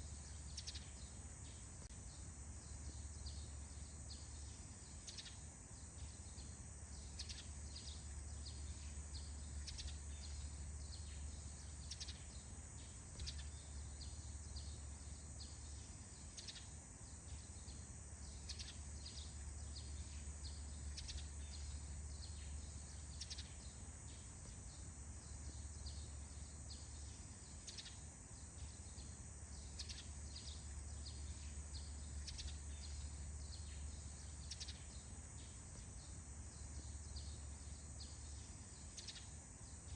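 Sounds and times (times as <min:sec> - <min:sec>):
bird chirps: 0:00.0 - 0:39.9
high insect drone: 0:00.0 - 0:39.9.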